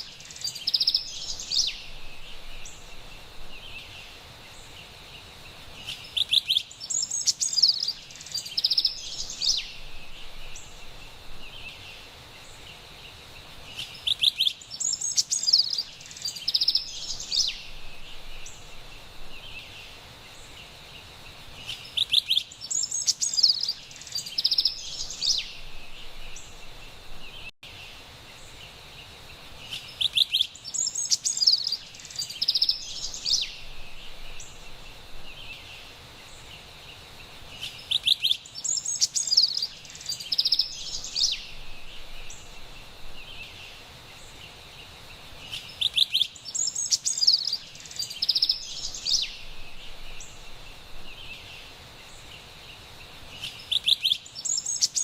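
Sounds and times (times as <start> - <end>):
faint steady background hiss: 0.0 - 55.0.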